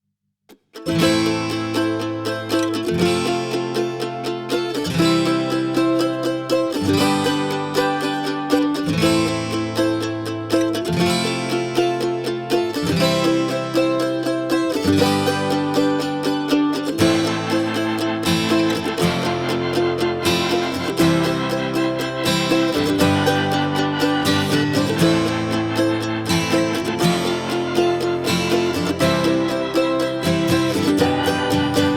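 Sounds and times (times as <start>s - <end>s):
plucked-string instrumental music: 0.5s - 31.9s.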